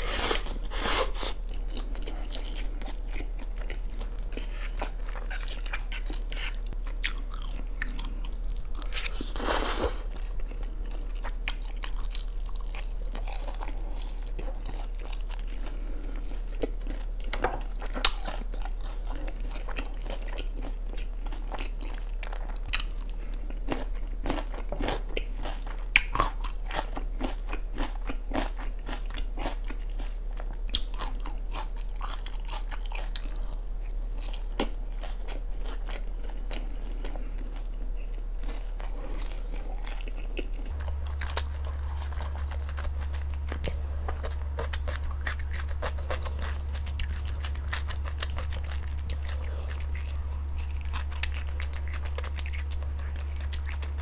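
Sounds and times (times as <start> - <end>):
crisp chewing crunches: 0.0 - 54.0.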